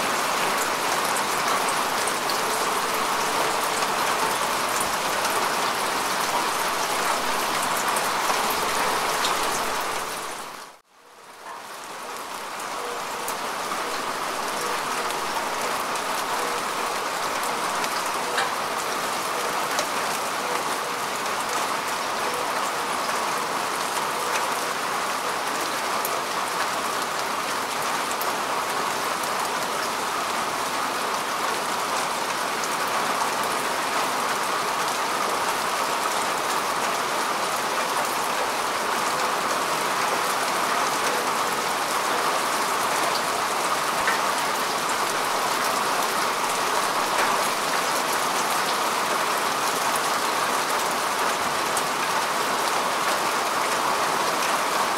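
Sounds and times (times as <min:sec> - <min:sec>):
rain falling on grass: 0:00.0 - 0:54.9.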